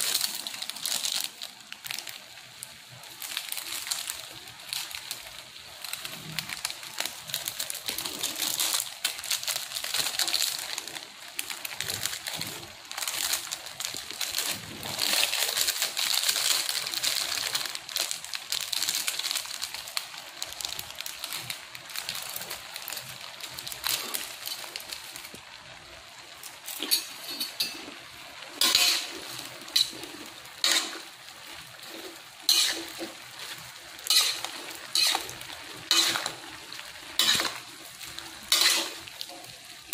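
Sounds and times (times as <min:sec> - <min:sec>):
food sizzling in a wok: 0:00.0 - 0:39.9.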